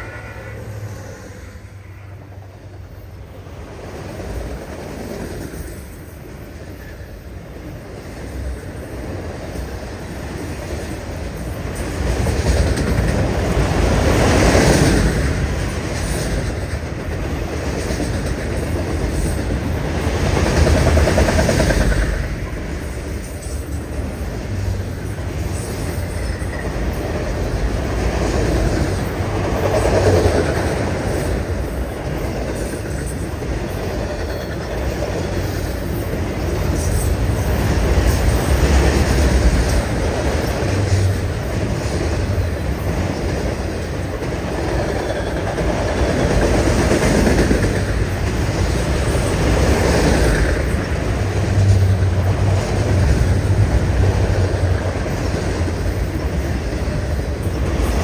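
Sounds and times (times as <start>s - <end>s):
freight cars rumbling on rails: 0.0s - 58.0s.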